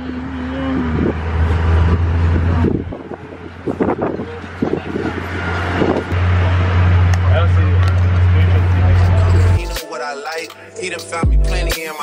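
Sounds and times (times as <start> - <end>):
road train low drone: 0.0 - 9.8
wind: 0.0 - 11.2.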